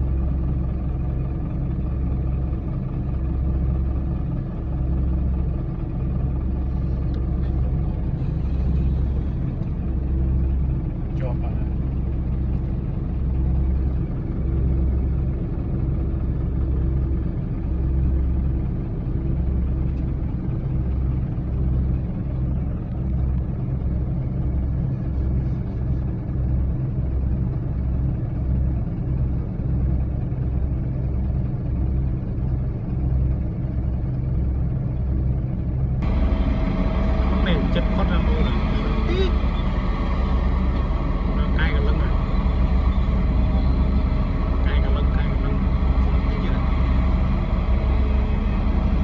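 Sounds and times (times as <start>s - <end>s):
bulldozer diesel engine rumbling: 0.0s - 49.0s.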